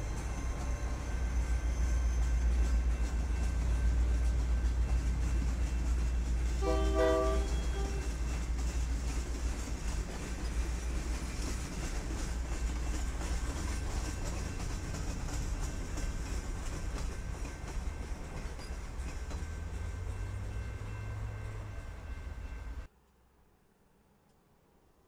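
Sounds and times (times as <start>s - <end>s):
freight train rumbling past: 0.0s - 22.9s
wheels clicking over rail joints: 0.0s - 22.9s.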